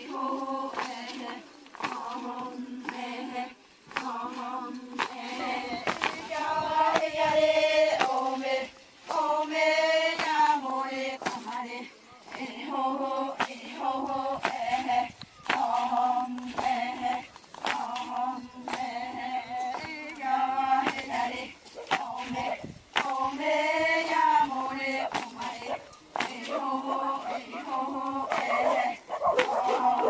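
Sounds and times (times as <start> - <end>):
women and girls chanting: 0.0 - 30.0.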